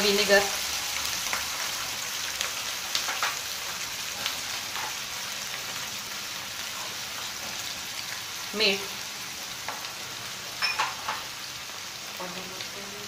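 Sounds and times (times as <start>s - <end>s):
vegetables sizzling in a hot pan: 0.0s - 13.0s.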